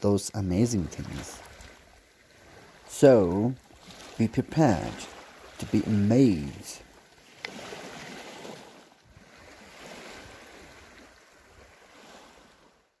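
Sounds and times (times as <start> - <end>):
small waves lapping on pebbles: 0.8 - 12.9.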